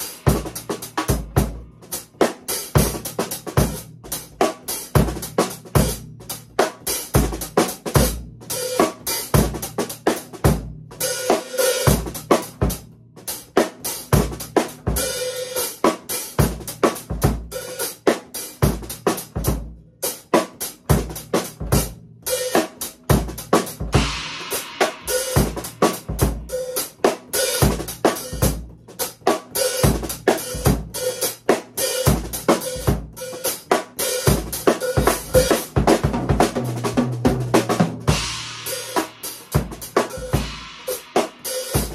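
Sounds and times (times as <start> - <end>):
drum kit groove: 0.0 - 41.9.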